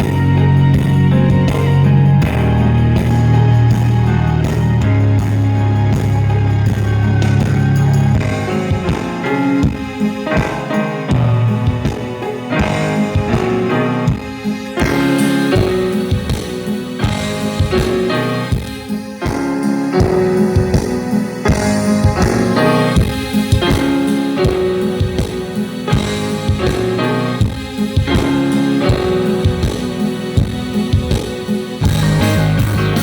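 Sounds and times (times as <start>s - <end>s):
keyboard music with low thumps: 0.0s - 33.0s.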